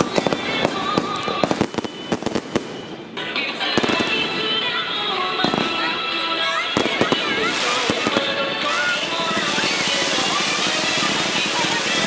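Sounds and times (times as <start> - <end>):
background music: 0.0 - 12.0
fireworks crackling pops: 0.0 - 12.0
fireworks hissing: 0.0 - 12.0.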